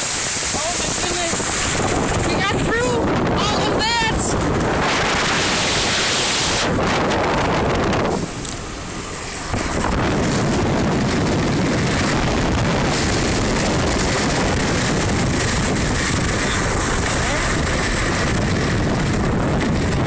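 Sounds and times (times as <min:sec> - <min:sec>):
tyres on flooded road: 0:00.0 - 0:20.0.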